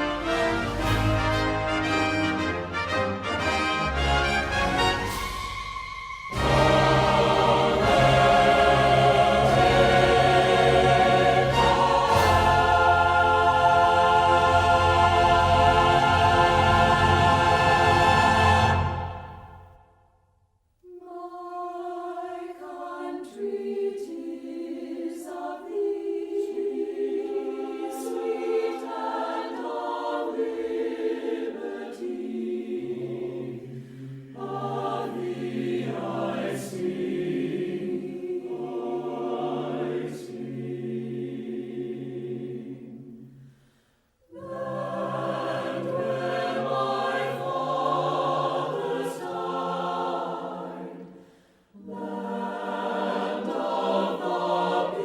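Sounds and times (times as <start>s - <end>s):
choir singing sustained chords: 0.0s - 20.1s, 20.9s - 55.0s.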